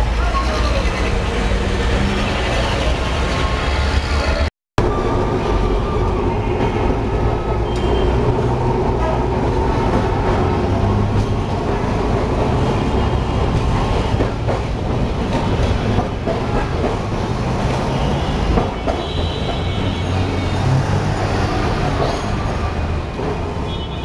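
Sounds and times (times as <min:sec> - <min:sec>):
tram wheels and motors rumbling: 0:00.0 - 0:23.7.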